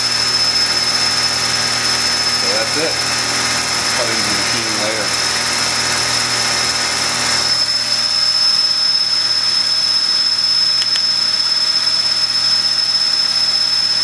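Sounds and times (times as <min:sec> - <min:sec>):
lathe running with high whine: 0:00.0 - 0:14.0.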